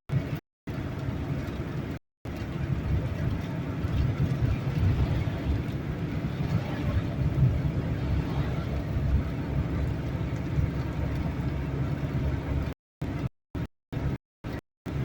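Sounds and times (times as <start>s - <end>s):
car interior highway rumble: 0.1s - 15.0s.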